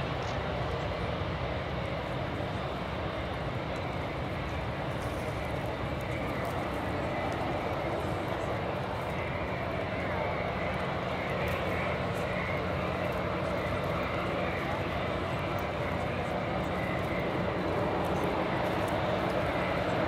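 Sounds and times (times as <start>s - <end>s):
jet engines running at low power: 0.0s - 20.0s.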